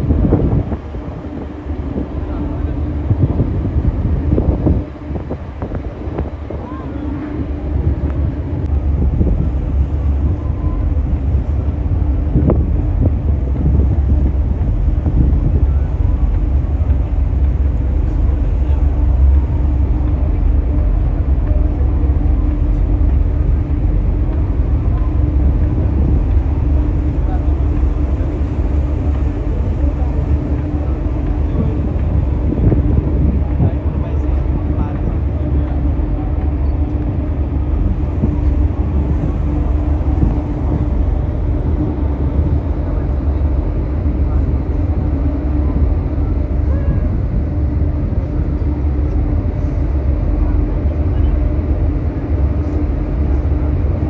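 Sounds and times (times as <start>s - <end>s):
constant hum: 0.0s - 54.0s
low engine rumble: 0.0s - 54.0s.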